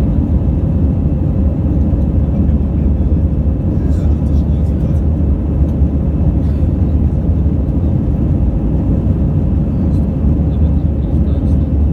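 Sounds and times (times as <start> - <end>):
jet engine cabin rumble: 0.0 - 11.9.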